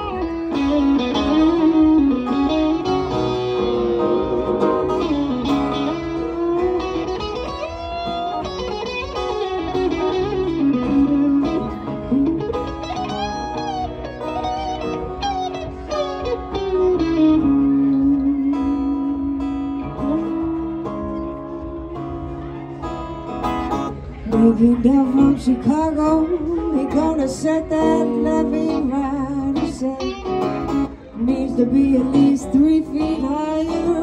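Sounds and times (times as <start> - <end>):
acoustic guitar chords: 0.0 - 34.0
electric guitar lead melody: 0.0 - 34.0.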